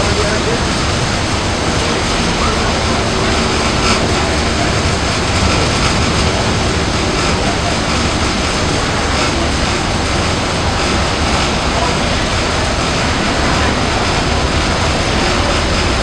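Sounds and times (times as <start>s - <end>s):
wind and water rushing: 0.0s - 16.0s
wind buffeting on microphone: 0.0s - 16.0s.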